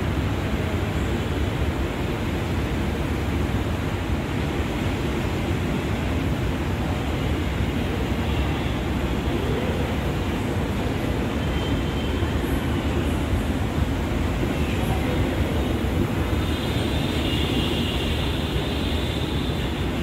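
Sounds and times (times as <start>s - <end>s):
metro station rumbling: 0.0s - 20.0s.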